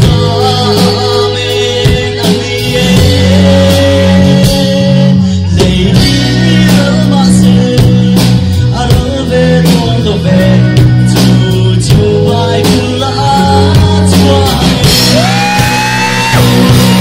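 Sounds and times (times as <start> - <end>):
bass guitar: 0.0 - 17.0
drum kit: 0.0 - 17.0
guitars: 0.0 - 17.0
keyboard: 0.0 - 17.0
man singing into a microphone: 0.0 - 17.0.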